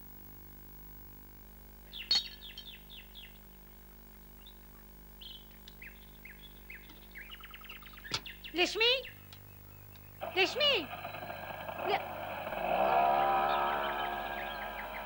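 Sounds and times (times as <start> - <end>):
faint steady hum: 0.0 - 15.0
birds chirping: 1.9 - 3.5, 4.2 - 15.0.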